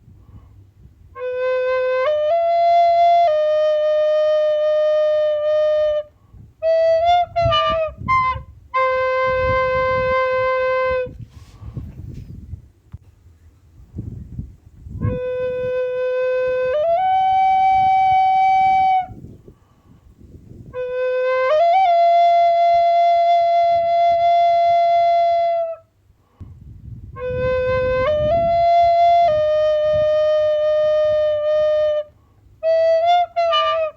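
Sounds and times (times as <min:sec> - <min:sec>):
wind instrument long held notes: 0:00.0 - 0:12.3, 0:14.8 - 0:26.0, 0:26.9 - 0:33.9.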